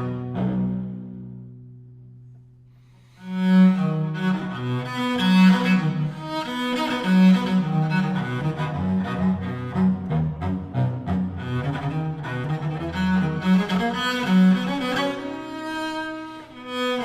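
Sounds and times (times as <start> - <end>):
bowed cello: 0.0 - 17.0.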